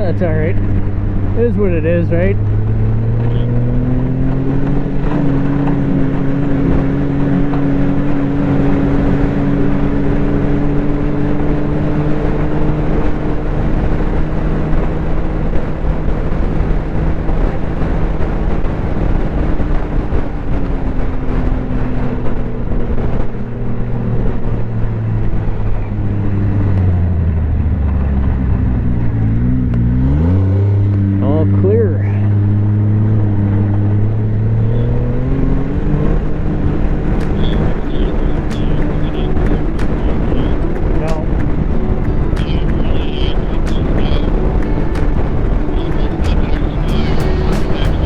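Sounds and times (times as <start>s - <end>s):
snowmobile engine running: 0.0s - 48.0s.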